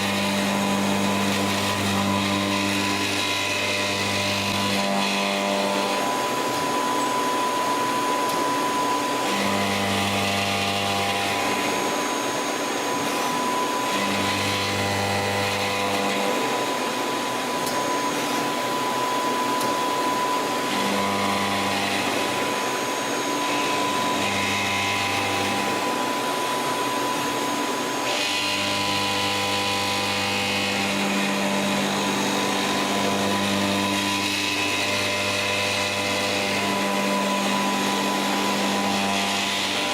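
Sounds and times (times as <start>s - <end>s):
lathe mechanical whir: 0.0s - 39.9s.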